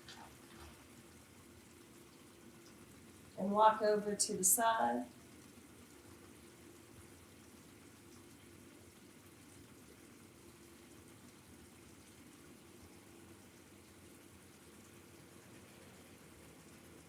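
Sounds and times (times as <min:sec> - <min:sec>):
faint hiss: 0:00.0 - 0:17.0
low steady hum: 0:00.0 - 0:17.0.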